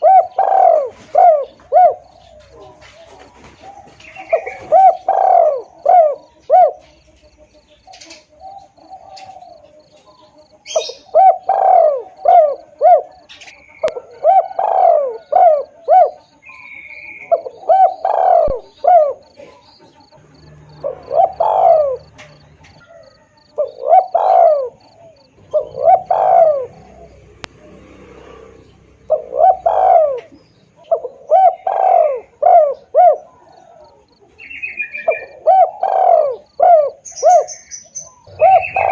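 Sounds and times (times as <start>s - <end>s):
dove cooing: 0.0s - 38.9s
faint bird chirps: 0.0s - 38.9s.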